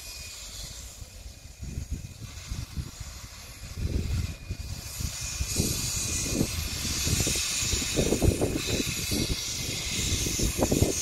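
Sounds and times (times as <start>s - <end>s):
steam hissing: 0.0s - 11.0s
low gusty rumble: 0.8s - 11.0s.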